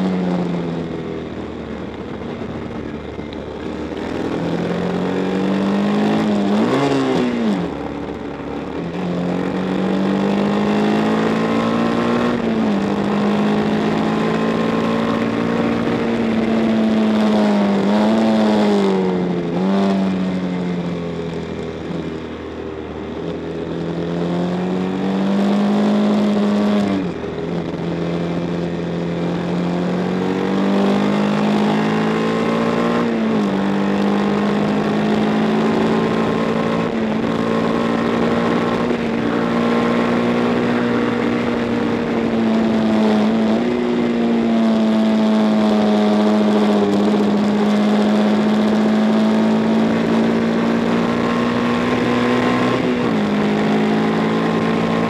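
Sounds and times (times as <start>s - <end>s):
racing motorcycle engine revving: 0.0s - 55.0s.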